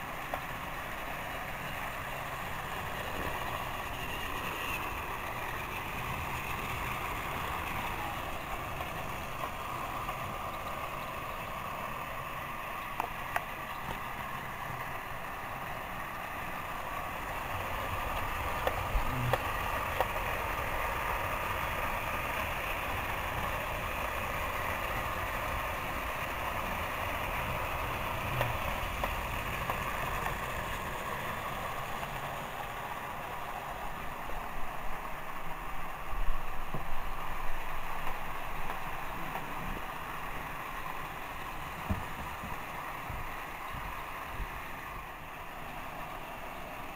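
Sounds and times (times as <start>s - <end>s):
toy train motors whirring: 0.0s - 46.9s.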